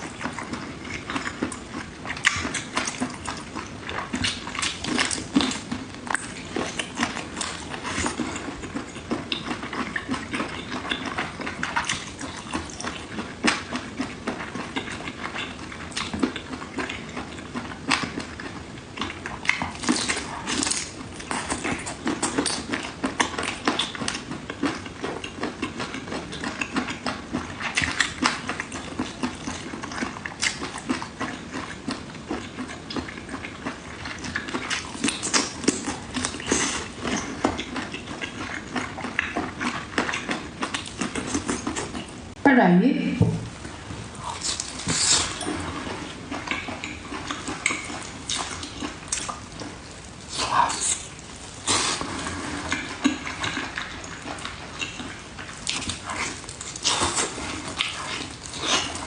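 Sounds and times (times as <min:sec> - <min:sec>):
person chewing with wet mouth clicks: 0:00.0 - 0:42.2, 0:44.2 - 0:59.0.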